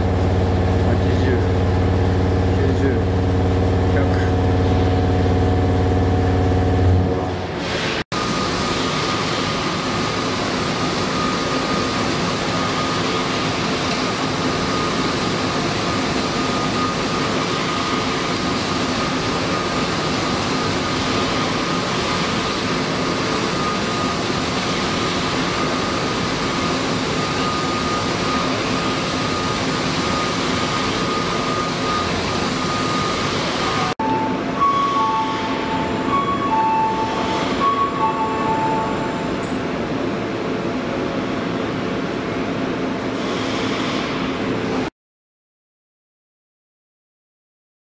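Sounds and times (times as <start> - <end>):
machining noise with high whine: 0.0 - 44.9.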